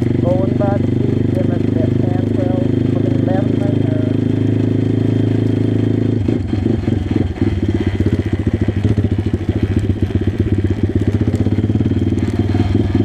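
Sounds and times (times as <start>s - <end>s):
motorbike engine puttering: 0.0s - 13.0s.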